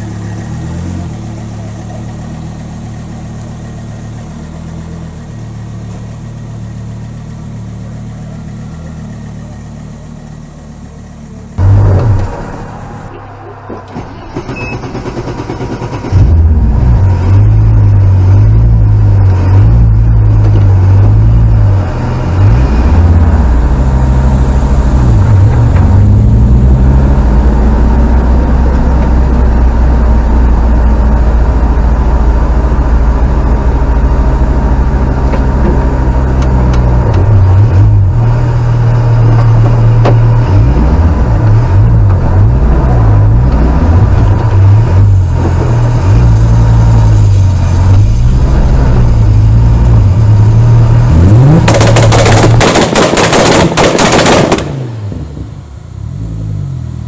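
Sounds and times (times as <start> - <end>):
rally car engine revving: 6.1 - 57.0.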